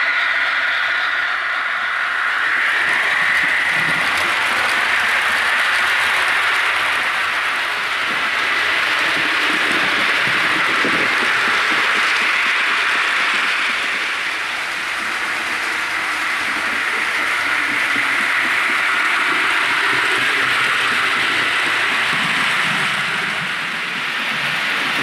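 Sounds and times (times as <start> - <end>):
model train steam exhaust: 0.0 - 25.0
wheels rattling over track: 0.0 - 25.0.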